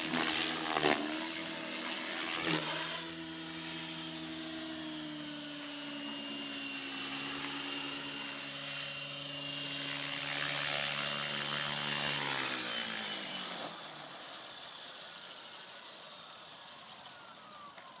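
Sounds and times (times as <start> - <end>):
rc helicopter rotor and motor whine: 0.0 - 18.0.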